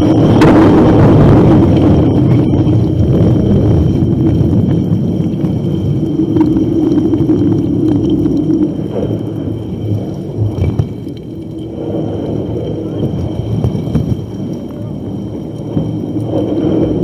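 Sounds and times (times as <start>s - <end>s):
low rumble with droning hum: 0.0s - 17.0s.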